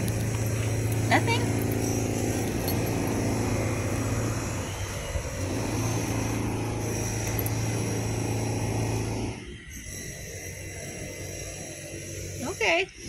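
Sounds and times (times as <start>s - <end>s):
drilling machinery droning: 0.0s - 13.0s.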